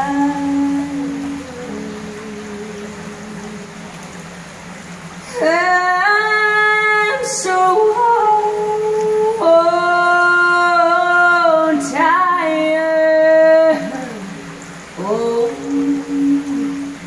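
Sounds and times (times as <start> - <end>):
woman singing in a pipe: 0.0 - 3.9, 5.2 - 17.0.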